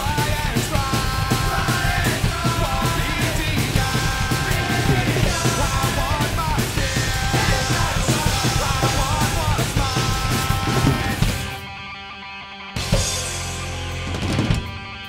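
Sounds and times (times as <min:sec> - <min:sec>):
drum kit played hard: 0:00.0 - 0:12.0, 0:12.8 - 0:15.0
rock song with shouted vocals: 0:00.0 - 0:15.0.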